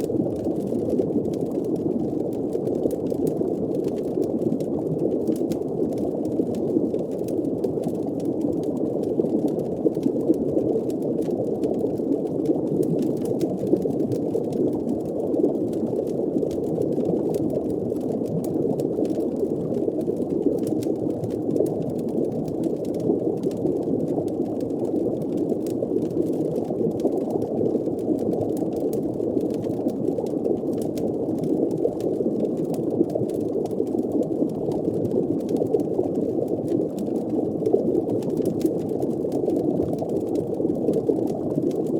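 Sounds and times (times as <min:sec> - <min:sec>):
faint crackles: 0:00.0 - 0:41.9.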